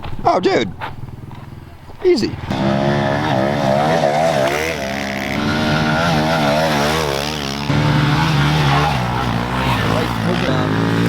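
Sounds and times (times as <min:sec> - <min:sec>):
pit bike engines revving: 0:00.0 - 0:11.0.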